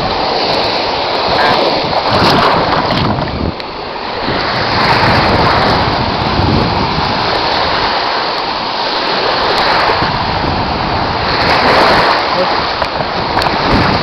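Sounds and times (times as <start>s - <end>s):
sea surf washing at shoreline: 0.0s - 14.0s
wind on microphone: 0.0s - 14.0s.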